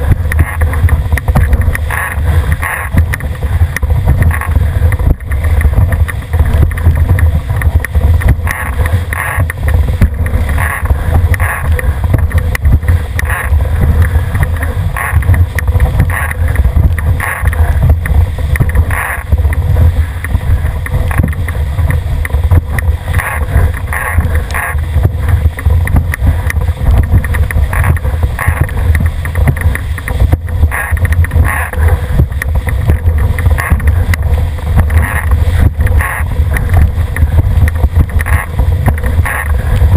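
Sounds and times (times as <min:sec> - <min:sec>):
water rushing along boat hull: 0:00.0 - 0:39.9
wind buffeting microphone: 0:00.0 - 0:39.9.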